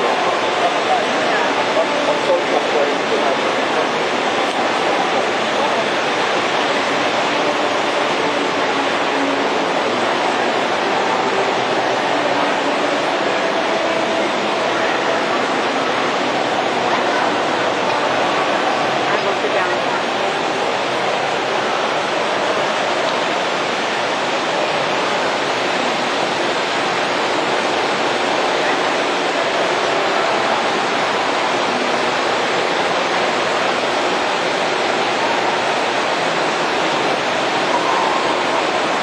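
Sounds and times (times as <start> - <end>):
swirling falling water: 0.0 - 39.0.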